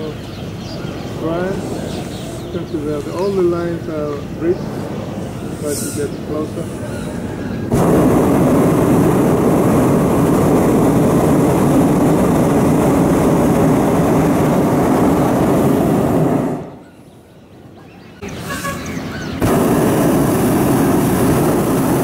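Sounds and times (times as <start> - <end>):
propane burner roaring: 0.0 - 17.2, 19.2 - 22.0.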